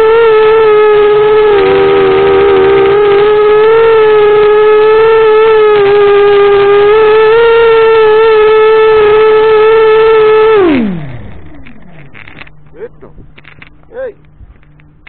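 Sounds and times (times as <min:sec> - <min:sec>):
quadcopter buzzing whine: 0:00.0 - 0:15.0.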